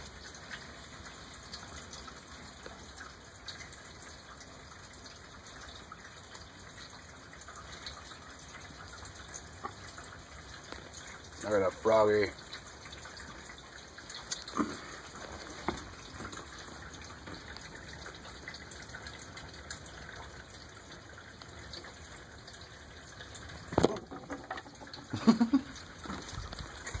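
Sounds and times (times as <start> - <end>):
rushing water-like noise: 0.0 - 27.0.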